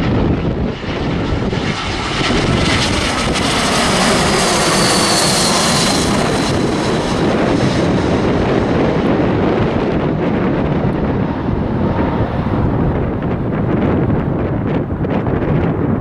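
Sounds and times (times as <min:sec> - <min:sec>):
high jet whine: 0:00.0 - 0:16.0
jet airliner engine roar: 0:00.0 - 0:16.0.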